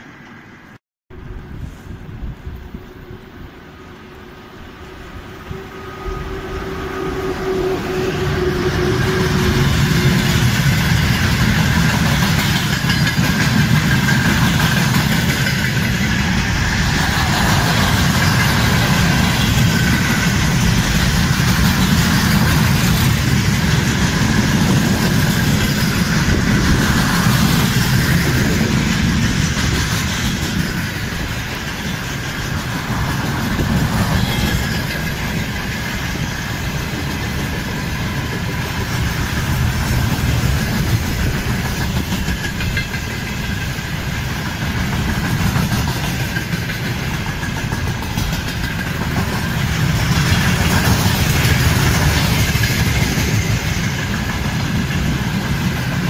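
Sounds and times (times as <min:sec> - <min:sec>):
freight train passing: 0:00.0 - 0:56.0
steel wheels rumbling on rails: 0:01.2 - 0:56.0.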